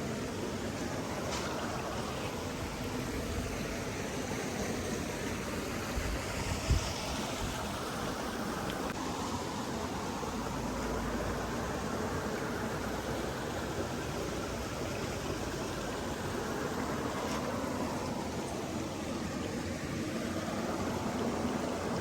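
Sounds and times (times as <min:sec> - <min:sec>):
stream running water: 0:00.0 - 0:22.0.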